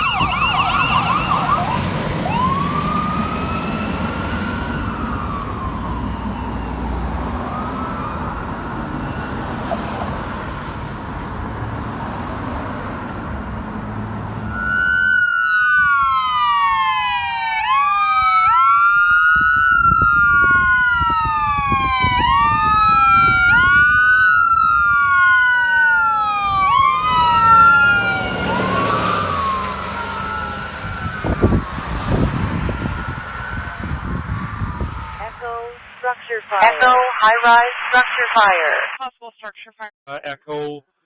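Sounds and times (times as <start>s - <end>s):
emergency sirens wailing: 0.0s - 38.6s
road noise: 0.0s - 39.0s.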